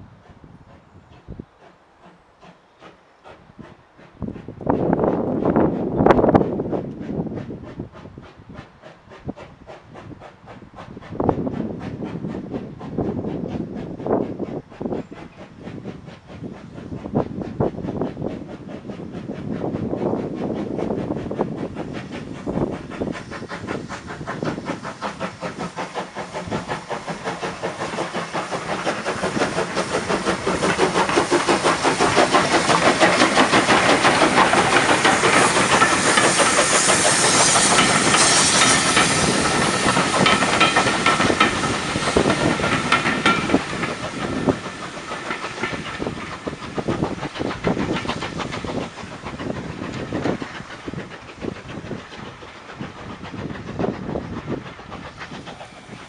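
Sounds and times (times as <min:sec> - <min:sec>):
steam hissing: 0:00.0 - 0:56.0
steam train wheels clattering: 0:00.0 - 0:56.0.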